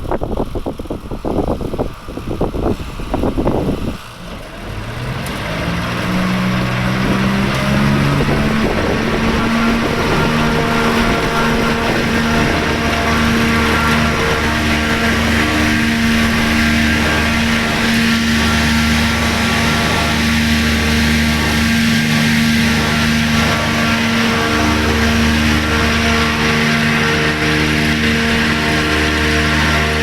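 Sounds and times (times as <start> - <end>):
machine humming and whirring: 0.0 - 30.0.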